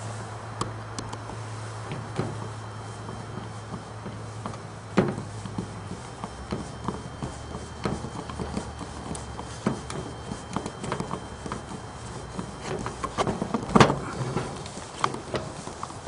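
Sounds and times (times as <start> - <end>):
small clicks and scrapes: 0.8 - 16.0.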